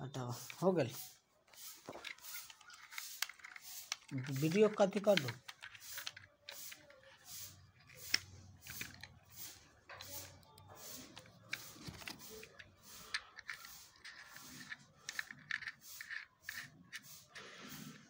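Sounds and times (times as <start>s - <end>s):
plastic parts clicking and rustling: 0.4s - 18.0s.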